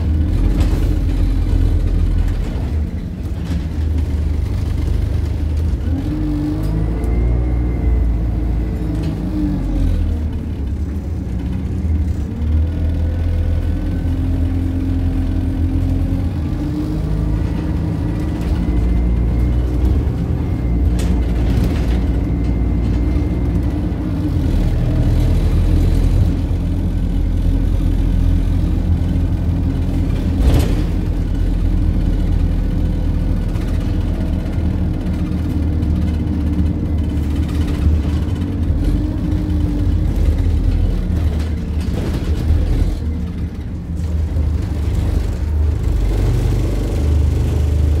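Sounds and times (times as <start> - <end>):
bus diesel engine drone: 0.0 - 48.0.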